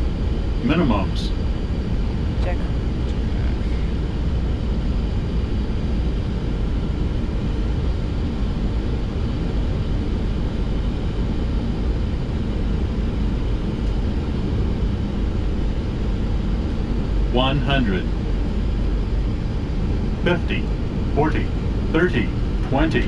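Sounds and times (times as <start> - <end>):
jet engines: 0.0 - 23.0.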